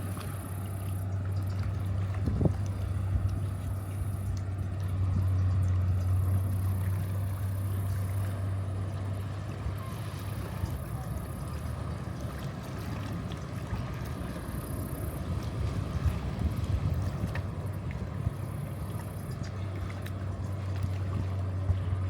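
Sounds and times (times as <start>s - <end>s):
ferry engine drone: 0.0s - 22.0s
low rumble: 0.0s - 22.0s.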